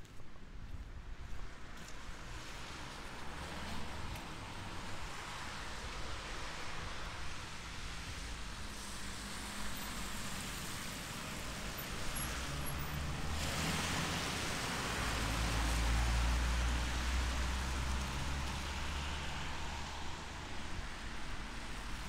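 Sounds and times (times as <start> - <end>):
vehicle passing on wet road: 1.5 - 22.0
steady rain: 2.4 - 22.0.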